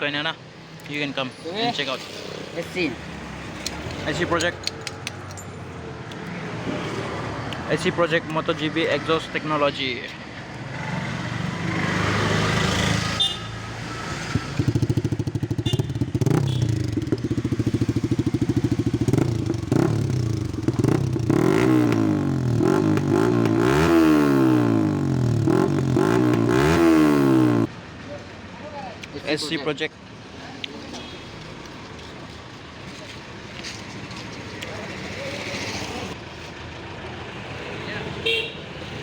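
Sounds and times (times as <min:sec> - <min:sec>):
motorcycle engine idling and revving: 0:00.5 - 0:39.0.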